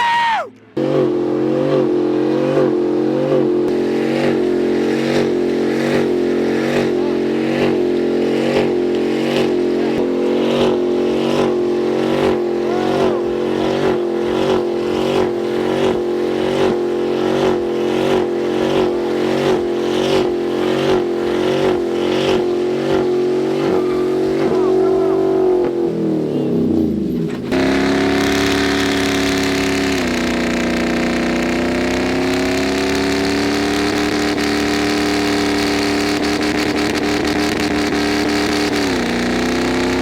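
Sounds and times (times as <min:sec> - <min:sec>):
truck engine at high revs: 0:00.0 - 0:40.0.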